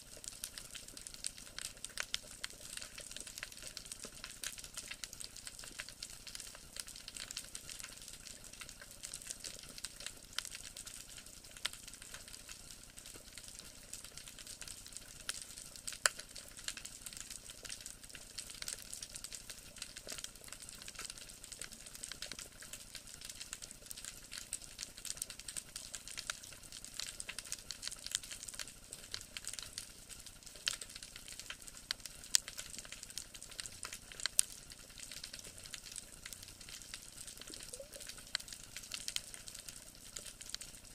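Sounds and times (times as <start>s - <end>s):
snapping shrimp clicks underwater: 0.0s - 40.9s.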